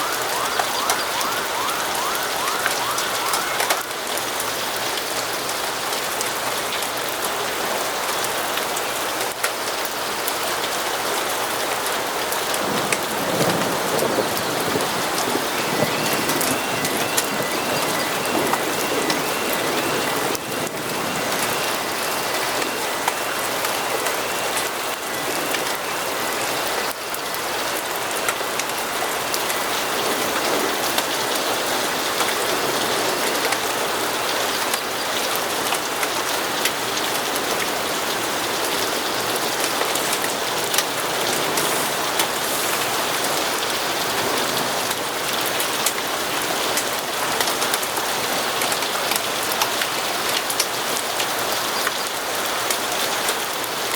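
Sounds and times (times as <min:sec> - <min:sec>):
steady rainfall: 0:00.0 - 0:53.9.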